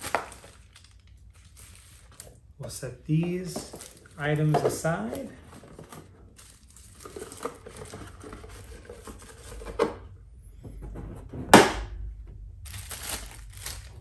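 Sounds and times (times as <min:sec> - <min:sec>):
items rustling and clicking: 0:00.0 - 0:14.0.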